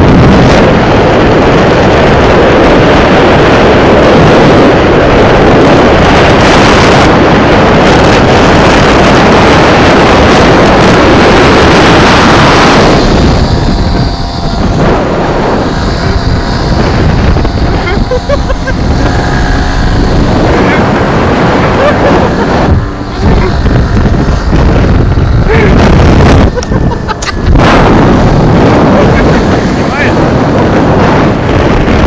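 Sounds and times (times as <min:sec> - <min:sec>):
scooter engine running: 0:00.0 - 0:32.0
wind buffeting microphone: 0:00.0 - 0:32.0.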